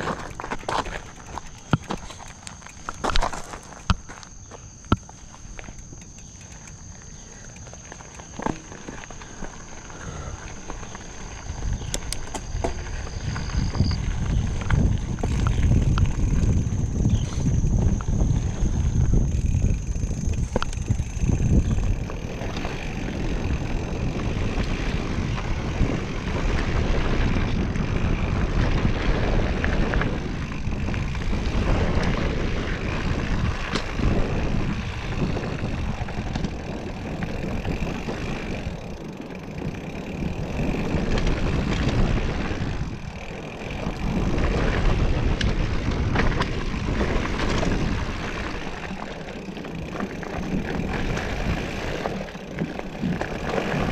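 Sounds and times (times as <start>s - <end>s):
wind buffeting microphone: 0.0s - 3.6s, 8.4s - 53.9s
bike rattling over bumps: 0.0s - 53.9s
bike tyres rolling on dirt: 0.0s - 53.9s.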